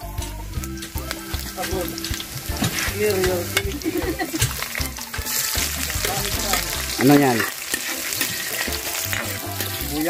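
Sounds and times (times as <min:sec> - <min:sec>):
hot oil sizzling in a wok: 0:00.0 - 0:10.0.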